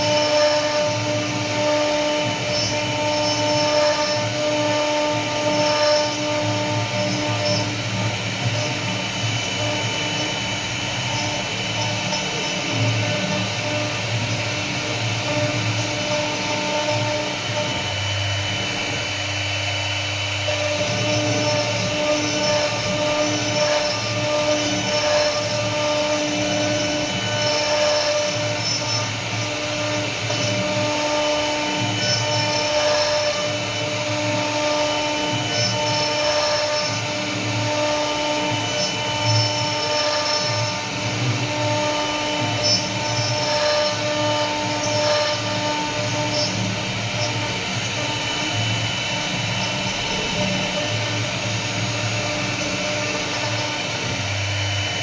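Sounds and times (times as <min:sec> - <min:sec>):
wood router spindle whine: 0:00.0 - 0:55.0.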